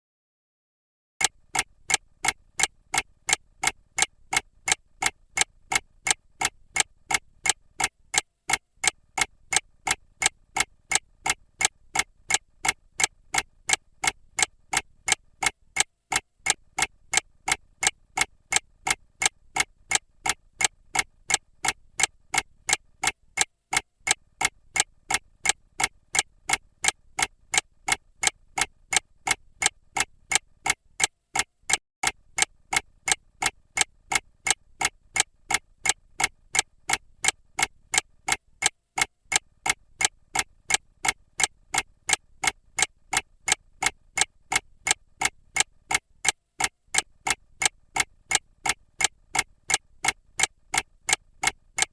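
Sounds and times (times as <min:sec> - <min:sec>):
mechanical clock ticking: 0:01.2 - 0:51.9.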